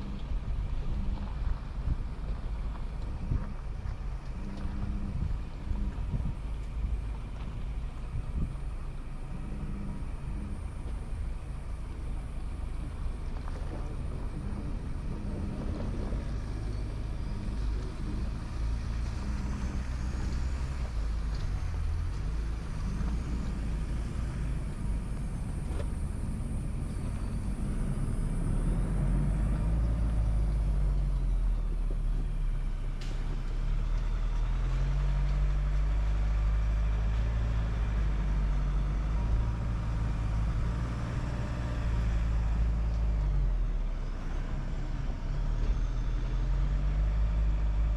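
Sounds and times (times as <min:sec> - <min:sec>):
diesel truck engine at low revs: 0:00.0 - 0:47.9.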